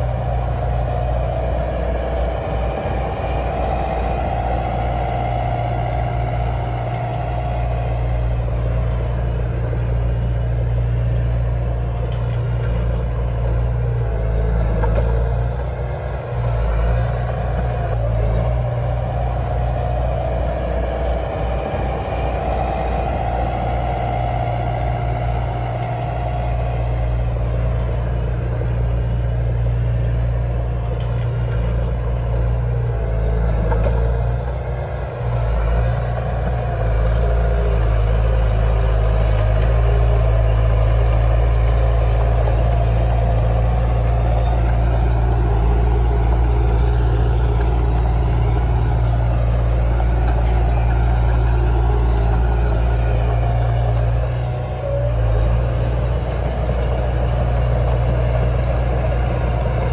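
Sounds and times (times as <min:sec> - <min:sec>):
bulldozer diesel engine humming: 0:00.0 - 0:59.9.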